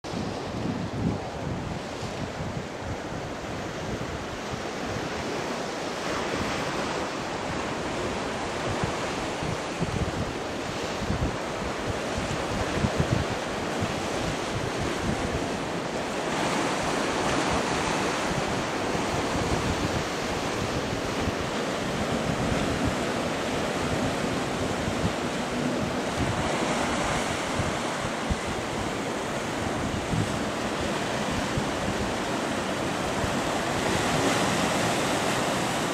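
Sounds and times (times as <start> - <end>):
wind buffeting microphone: 0.0 - 35.9
waves breaking on rocky shore: 0.1 - 35.9.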